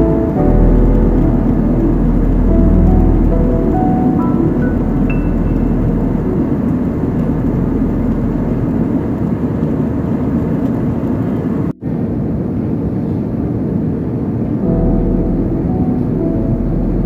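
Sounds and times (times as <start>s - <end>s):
jet airliner cabin noise: 0.0s - 17.0s.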